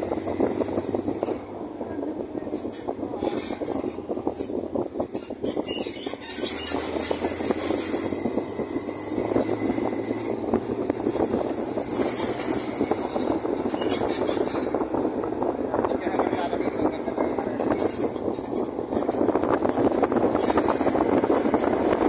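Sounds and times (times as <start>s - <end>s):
rattle and road noise: 0.0s - 22.0s
vehicle engine running: 0.0s - 22.0s.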